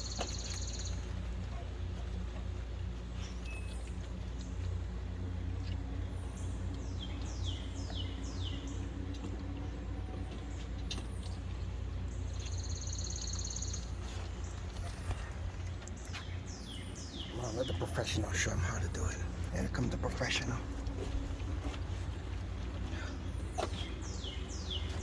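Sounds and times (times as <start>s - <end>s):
steady low rumble: 0.0s - 25.0s
wild birds calling: 0.0s - 25.0s.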